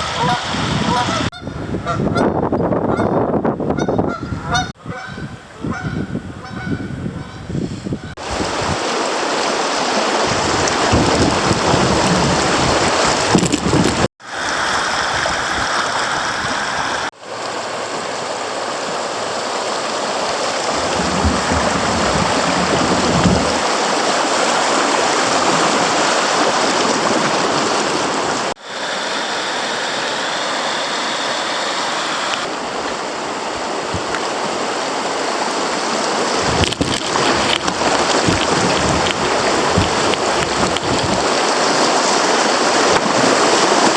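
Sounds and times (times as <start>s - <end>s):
creek water rushing over riffles: 0.0s - 2.2s, 8.2s - 43.9s.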